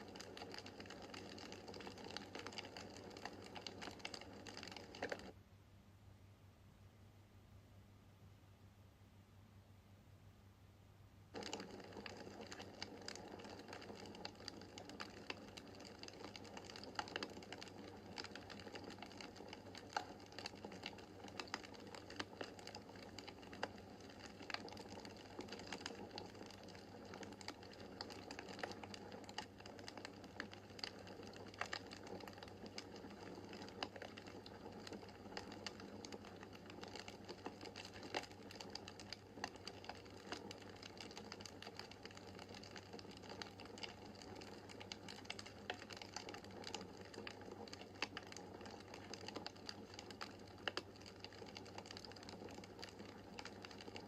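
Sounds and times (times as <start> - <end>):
wood fire crackling: 0.0 - 5.4, 11.3 - 54.0.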